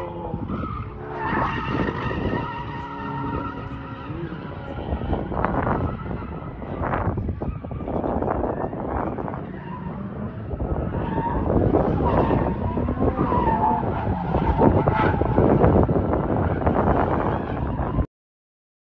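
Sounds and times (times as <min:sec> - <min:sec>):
tyres squealing: 0:00.0 - 0:15.5
car engine running hard: 0:00.0 - 0:18.0.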